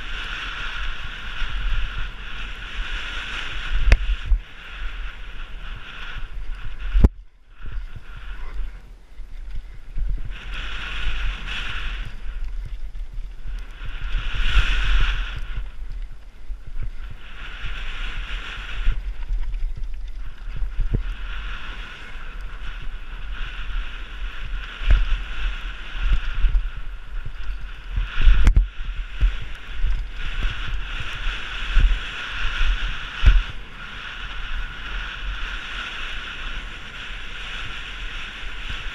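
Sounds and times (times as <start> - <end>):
mountain bike rattling: 0.0 - 38.9
wind buffeting microphone: 0.0 - 38.9.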